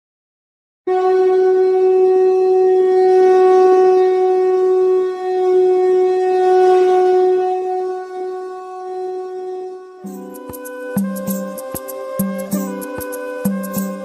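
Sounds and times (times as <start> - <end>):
wind instrument long note: 0.9 - 14.0.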